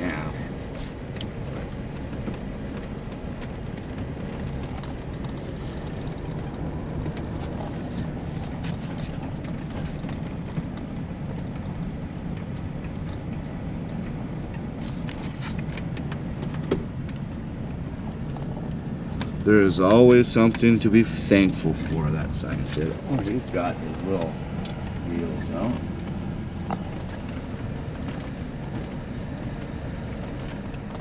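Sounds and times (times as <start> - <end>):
car engine running: 0.0 - 31.0
road noise: 0.0 - 31.0.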